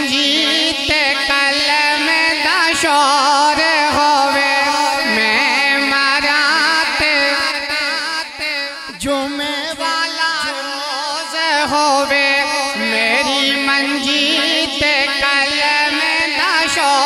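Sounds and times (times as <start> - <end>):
man singing through microphone: 0.0 - 17.0.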